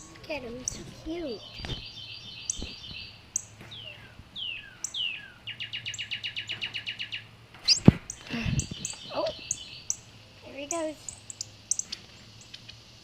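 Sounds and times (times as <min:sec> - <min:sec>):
birds chirping: 0:00.0 - 0:13.0
rapid bird trill: 0:00.0 - 0:13.0.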